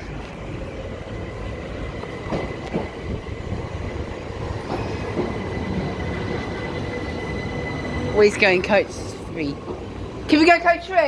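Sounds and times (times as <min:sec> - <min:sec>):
electric train arriving: 0:00.0 - 0:11.0
train rumble with high whine: 0:00.0 - 0:11.0.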